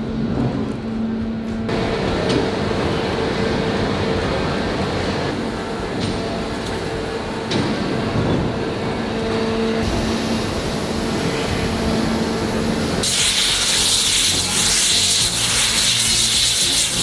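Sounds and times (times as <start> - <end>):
industrial machinery humming: 0.0 - 17.0.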